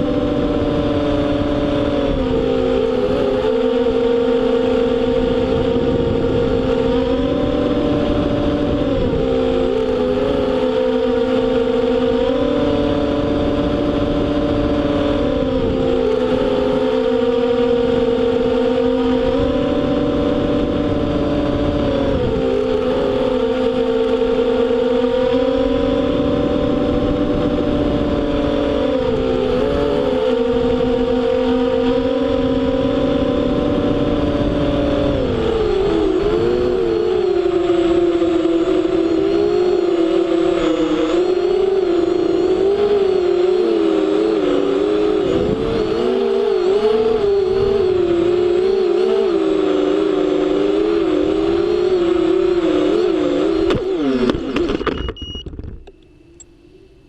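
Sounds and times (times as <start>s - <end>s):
quadcopter propellers whining: 0.0s - 57.0s.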